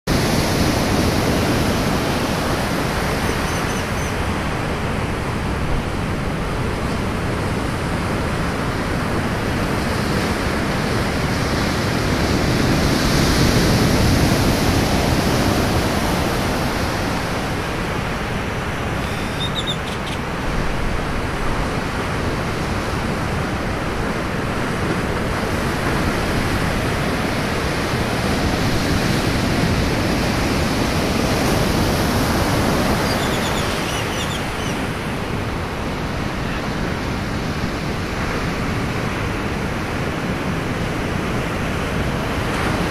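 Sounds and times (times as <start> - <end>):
ocean surf breaking: 0.1 - 42.9.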